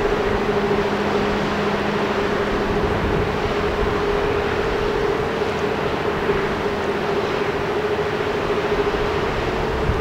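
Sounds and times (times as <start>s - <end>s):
diesel engines droning: 0.0s - 10.0s
rushing water: 0.0s - 10.0s
wind: 0.0s - 10.0s.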